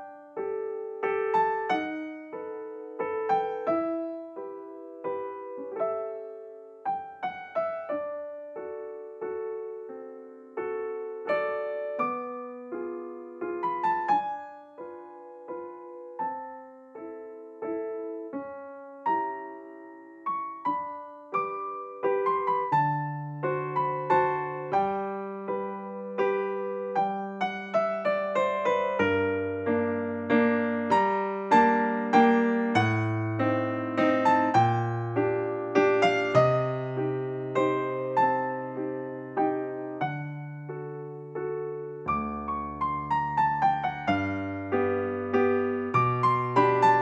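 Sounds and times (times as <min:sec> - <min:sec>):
gentle piano melody: 0:00.0 - 0:47.0.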